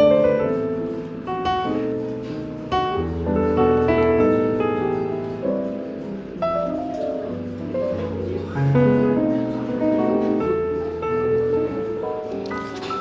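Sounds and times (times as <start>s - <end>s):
jazz piano music: 0.0s - 13.0s.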